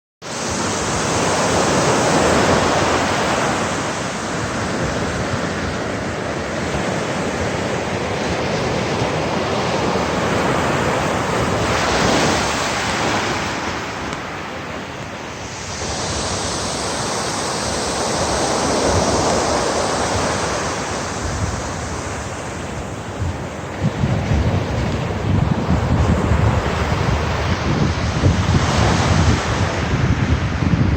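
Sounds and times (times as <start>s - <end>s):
sea waves washing in: 0.2s - 30.9s.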